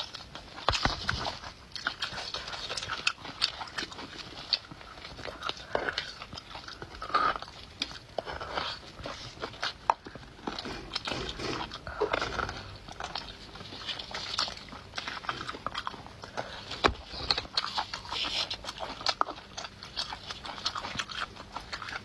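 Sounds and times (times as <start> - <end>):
person sucking and chewing: 0.0 - 22.0.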